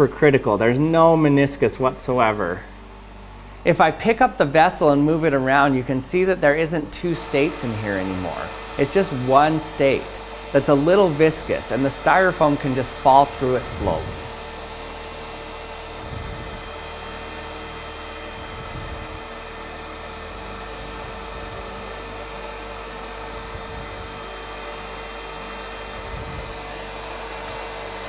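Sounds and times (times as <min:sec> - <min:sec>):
electric blower humming: 0:00.0 - 0:28.0.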